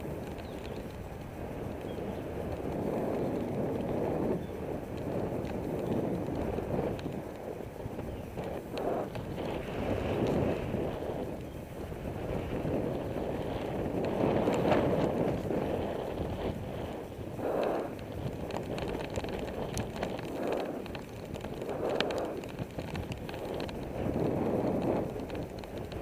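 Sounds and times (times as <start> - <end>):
bicycle rolling on pavement: 0.0 - 26.0
bike clicks and rattles: 0.0 - 26.0
wind rushing over microphone: 0.0 - 26.0.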